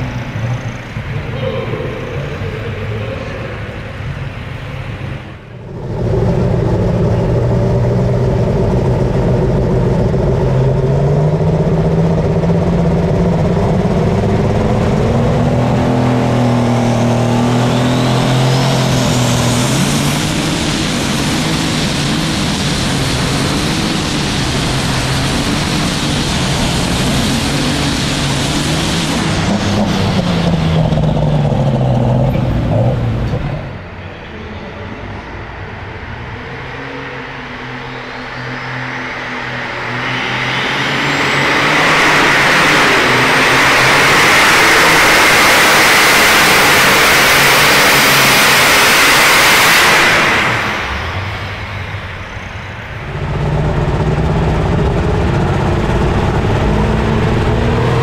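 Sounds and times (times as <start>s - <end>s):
high whine rising: 0.0s - 58.0s
tractor engine running hard: 0.0s - 58.0s.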